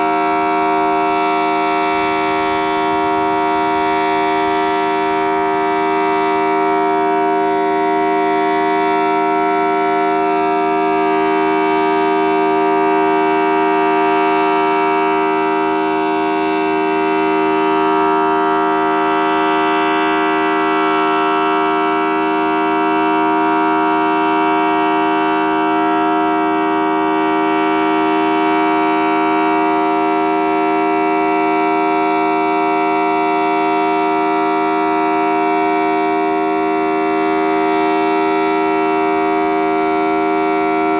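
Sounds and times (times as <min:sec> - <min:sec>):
civil defense siren steady tone: 0:00.0 - 0:40.9.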